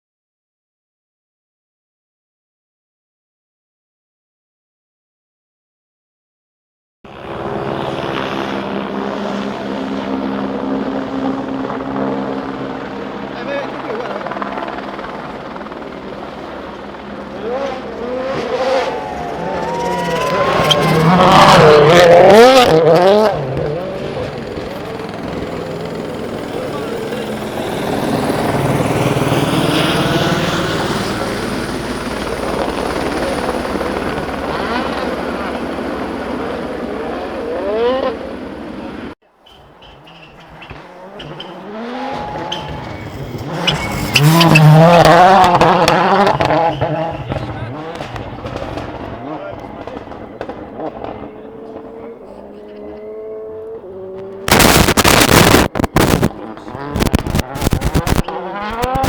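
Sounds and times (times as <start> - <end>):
helicopter drone: 7.1 - 39.2, 40.2 - 59.0.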